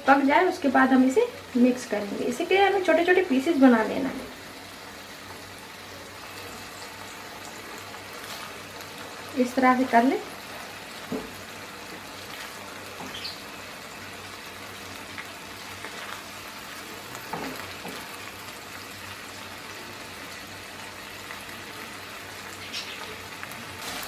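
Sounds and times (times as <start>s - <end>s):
egg sizzling in a pan: 0.0s - 24.0s.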